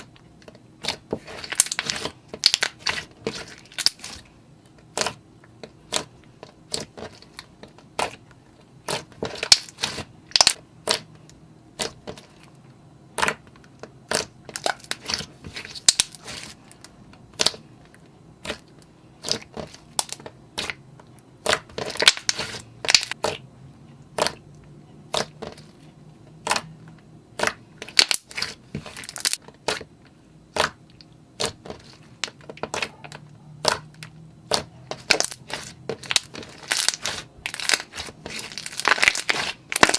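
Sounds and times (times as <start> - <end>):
slime squishing with sticky pops: 0.0 - 12.4, 13.1 - 23.4, 24.0 - 39.9.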